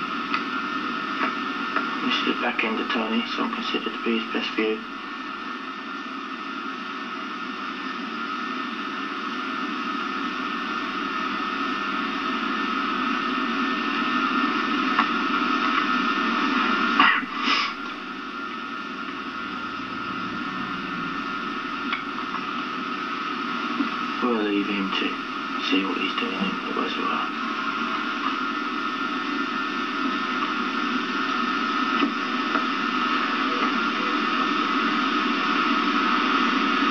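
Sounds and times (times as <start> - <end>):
videotape hiss and hum: 0.0 - 36.9.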